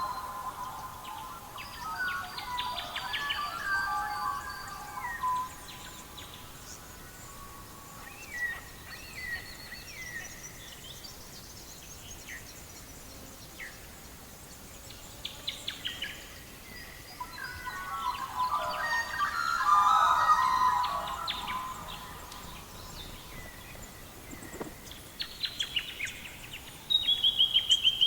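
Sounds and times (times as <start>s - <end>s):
soft steady hiss: 0.0s - 28.0s
songbirds chirping: 0.0s - 28.0s.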